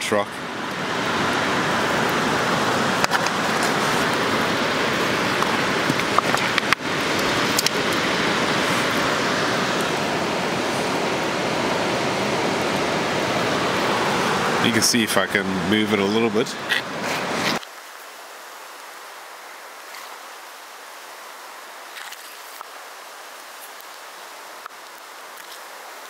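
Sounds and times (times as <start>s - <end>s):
waves rushing on beach: 0.0s - 26.0s.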